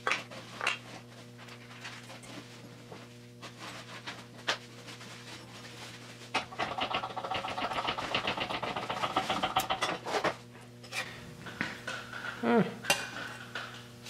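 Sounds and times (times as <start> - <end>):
rhythmic mechanical chatter with whine: 0.0 - 14.0.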